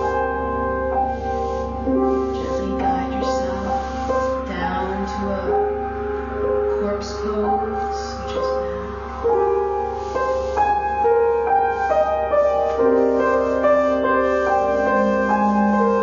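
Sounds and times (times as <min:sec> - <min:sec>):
slow gentle keyboard melody: 0:00.0 - 0:16.0.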